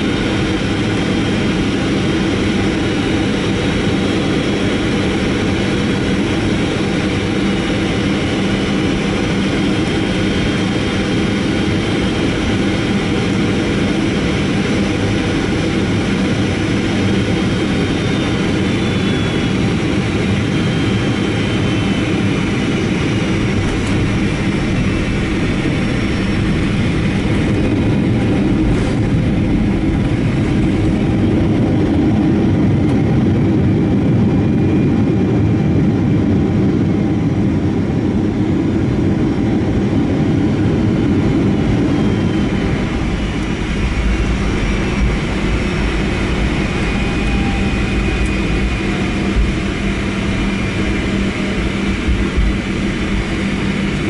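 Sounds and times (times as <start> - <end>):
jet engine and airflow roar: 0.0 - 54.0.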